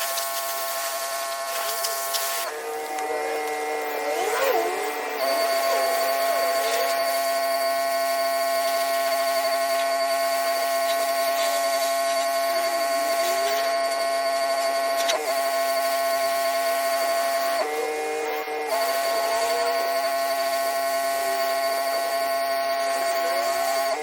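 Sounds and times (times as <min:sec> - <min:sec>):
pressure washer whine: 0:00.0 - 0:24.0.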